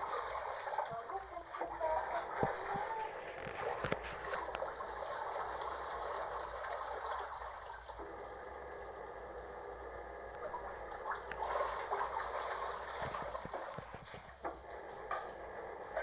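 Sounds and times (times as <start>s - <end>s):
water running and splashing: 0.0s - 8.2s, 10.4s - 16.0s.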